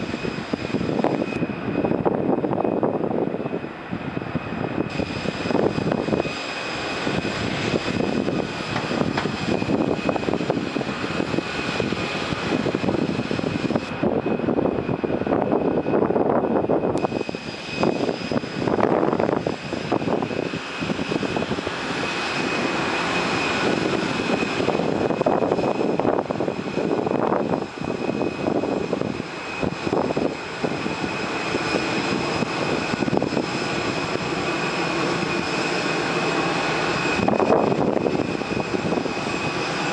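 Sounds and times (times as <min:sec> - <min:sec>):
jet turbine whine: 0:00.0 - 0:39.9
rushing noise: 0:00.0 - 0:39.9.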